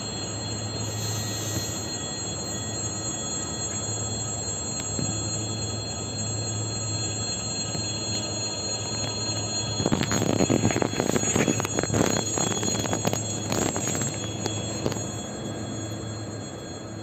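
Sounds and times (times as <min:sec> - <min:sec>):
steady high tone: 0:00.0 - 0:17.0.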